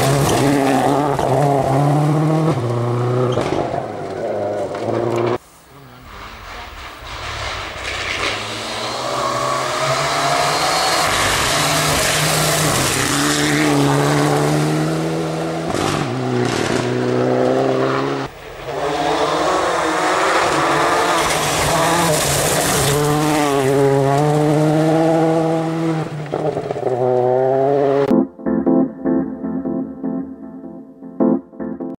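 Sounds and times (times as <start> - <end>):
rally car engines accelerating: 0.0 - 5.4, 6.0 - 28.1
tyre and road noise: 0.0 - 28.1.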